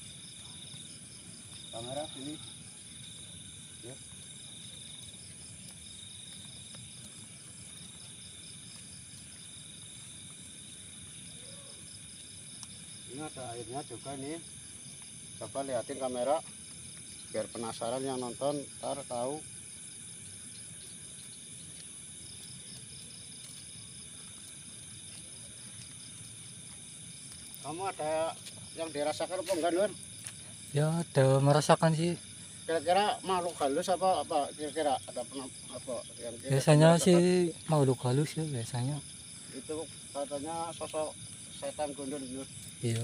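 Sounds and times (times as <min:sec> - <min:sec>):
crickets chirping: 0:00.0 - 0:43.0
insects trilling: 0:00.0 - 0:43.0.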